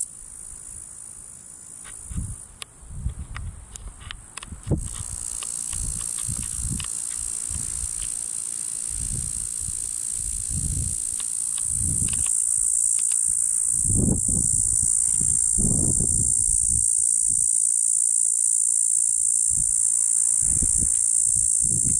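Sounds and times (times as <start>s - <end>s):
cicada buzzing: 0.0s - 2.6s, 4.7s - 21.9s.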